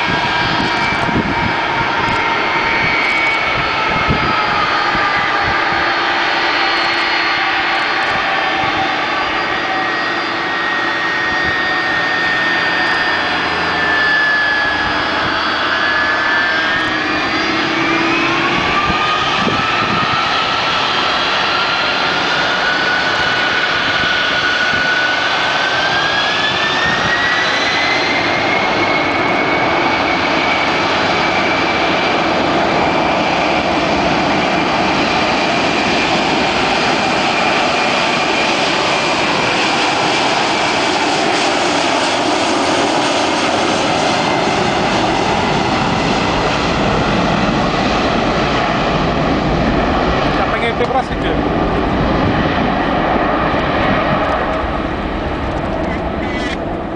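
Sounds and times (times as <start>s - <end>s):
jet engines whining on takeoff: 0.0s - 56.9s.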